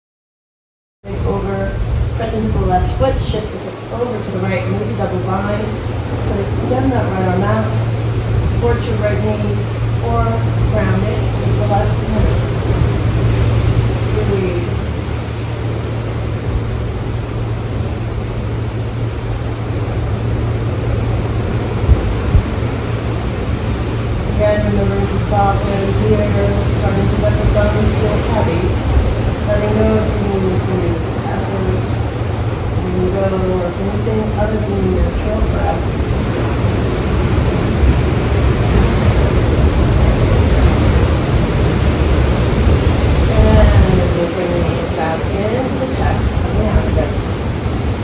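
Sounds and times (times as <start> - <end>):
ocean surf rumbling: 1.0 - 48.0.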